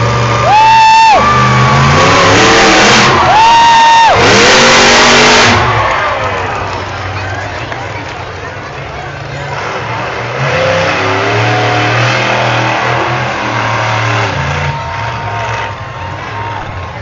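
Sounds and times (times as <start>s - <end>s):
truck engine revving hard: 0.0s - 8.0s, 8.6s - 17.0s.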